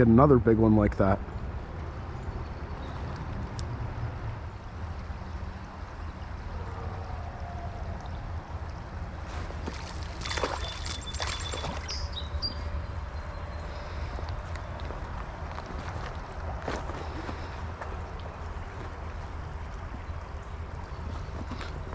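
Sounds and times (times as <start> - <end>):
creek water trickling: 1.0 - 21.9.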